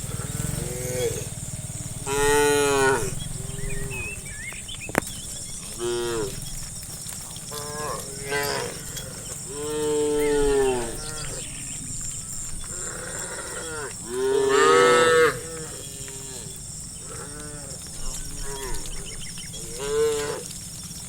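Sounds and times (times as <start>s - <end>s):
cattle mooing: 0.0s - 6.7s, 7.4s - 20.5s.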